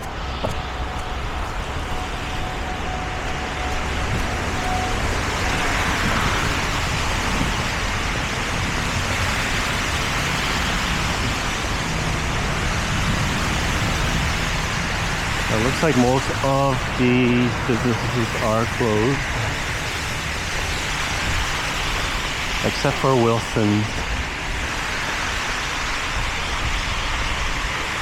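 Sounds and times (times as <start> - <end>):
engine rumble: 0.0 - 28.0
tyres hissing on slush: 0.0 - 28.0.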